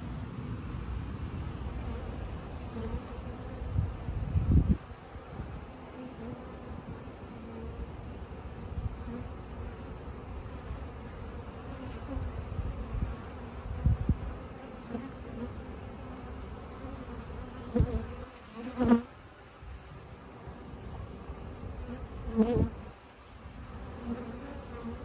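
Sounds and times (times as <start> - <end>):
honeybees buzzing: 0.6 - 25.0.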